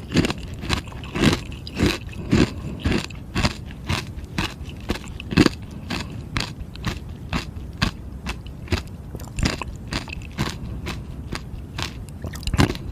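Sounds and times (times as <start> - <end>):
ice being crunched and chewed: 0.0 - 12.9.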